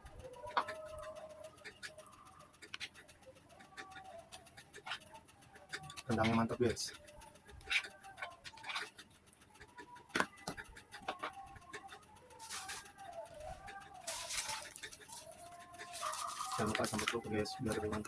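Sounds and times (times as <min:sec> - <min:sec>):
eating sounds: 0:00.4 - 0:18.0.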